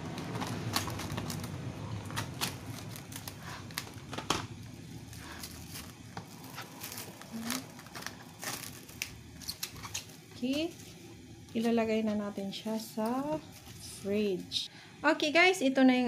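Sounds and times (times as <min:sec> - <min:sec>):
cling film crinkling: 0:00.0 - 0:14.6.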